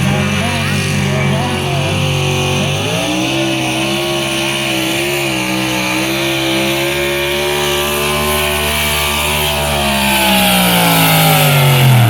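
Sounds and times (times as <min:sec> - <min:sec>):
vehicle engine at high revs: 0:00.0 - 0:12.0.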